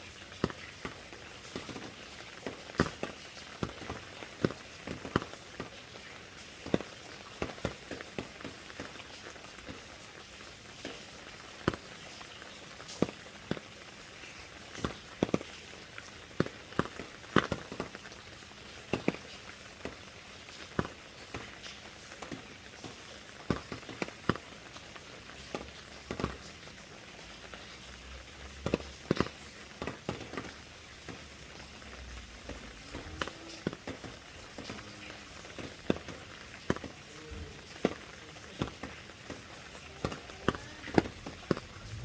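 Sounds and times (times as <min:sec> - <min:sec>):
rain hissing: 0:00.0 - 0:42.0
raindrops tapping a surface: 0:00.0 - 0:42.0.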